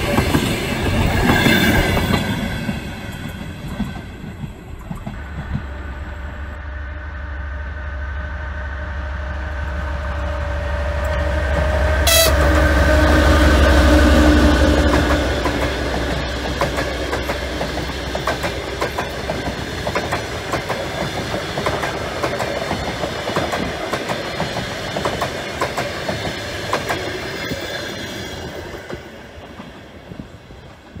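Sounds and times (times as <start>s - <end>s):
train coaches rumbling past: 0.0s - 31.0s.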